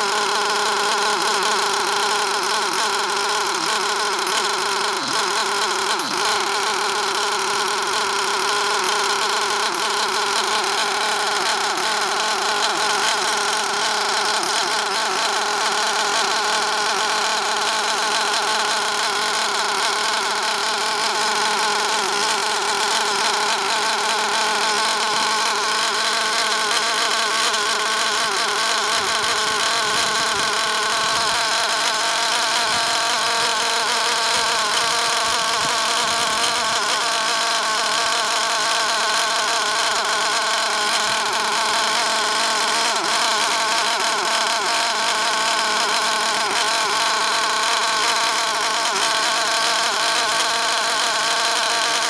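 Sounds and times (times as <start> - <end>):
small engine high-pitched buzz: 0.0 - 52.0.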